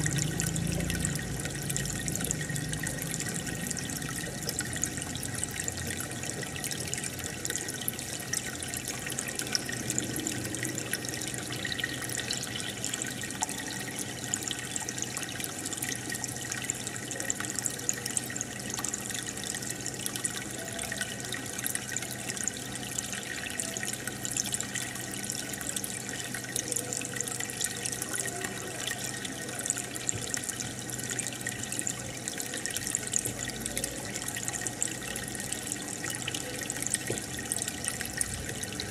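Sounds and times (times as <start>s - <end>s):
bubbling and trickling water: 0.0s - 38.9s
faint pump hum: 0.0s - 38.9s.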